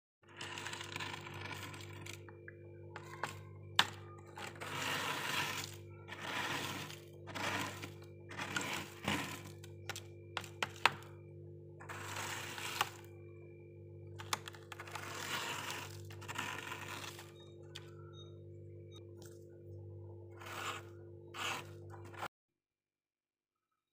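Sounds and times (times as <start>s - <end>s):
spoon scraping freezer frost: 0.2s - 13.3s, 14.2s - 18.4s, 20.3s - 22.3s
steady low hum: 0.3s - 22.3s.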